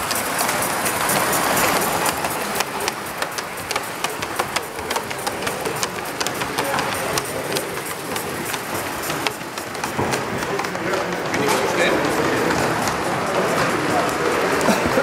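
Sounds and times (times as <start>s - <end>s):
sharp clicks: 0.0s - 14.7s
steam hiss: 0.0s - 15.0s.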